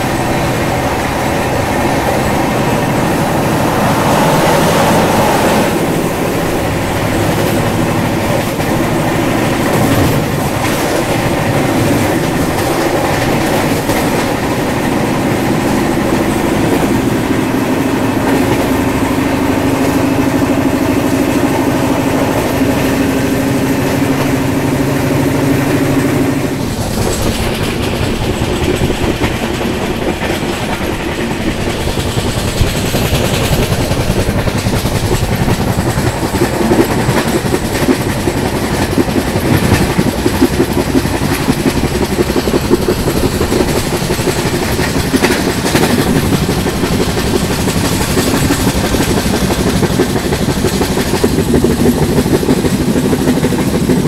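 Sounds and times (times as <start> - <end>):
clickety-clack of rail joints: 0.0 - 54.0
train wheels rumbling on rails: 0.0 - 54.0.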